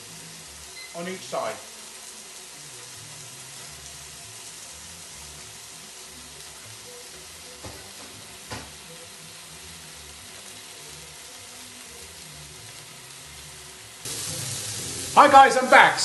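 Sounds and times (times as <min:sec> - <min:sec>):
steaks sizzling in grill pan: 0:00.0 - 0:16.0.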